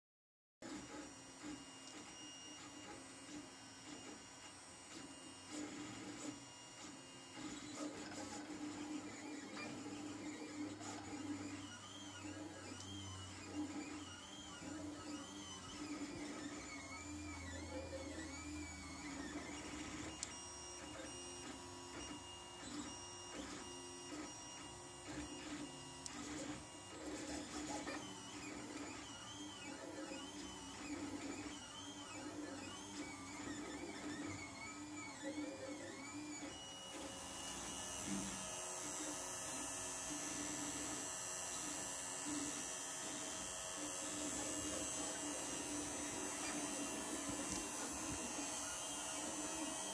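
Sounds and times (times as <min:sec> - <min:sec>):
printer stepper motors whining: 0:00.6 - 0:49.9.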